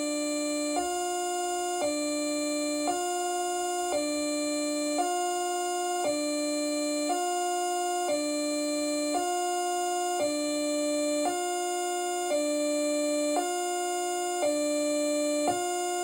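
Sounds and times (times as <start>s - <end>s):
two-tone electronic siren: 0.0s - 16.0s.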